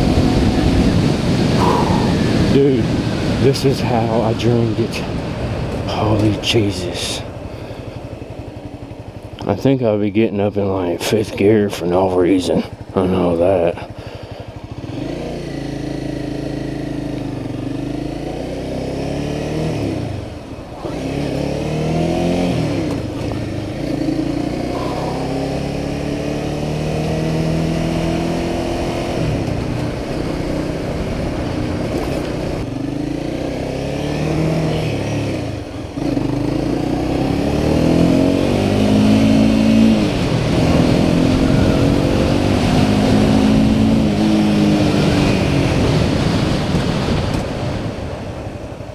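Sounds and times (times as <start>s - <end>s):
motorcycle engine revving: 0.0s - 9.6s, 10.7s - 48.4s.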